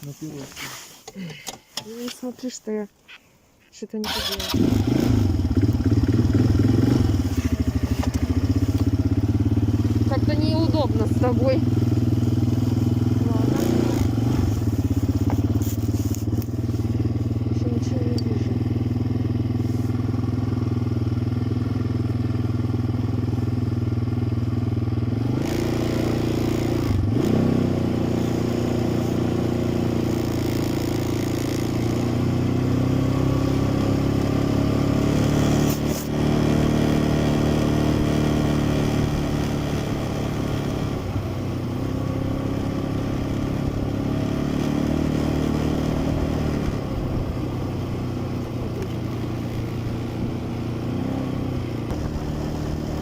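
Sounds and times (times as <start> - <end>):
quad bike engine running: 4.0 - 53.0.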